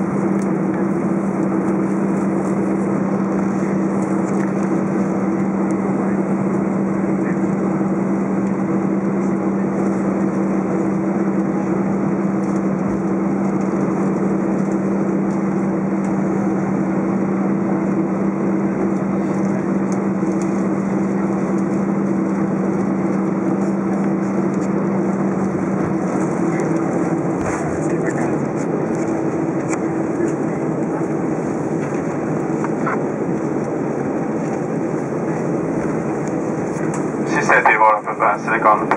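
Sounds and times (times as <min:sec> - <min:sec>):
jet engine hum in cabin: 0:00.0 - 0:38.9.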